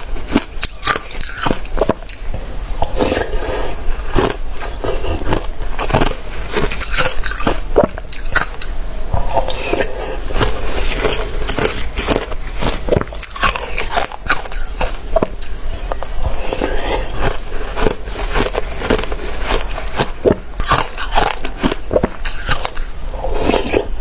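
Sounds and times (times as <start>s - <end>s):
crunching slushy ice: 0.0s - 24.0s.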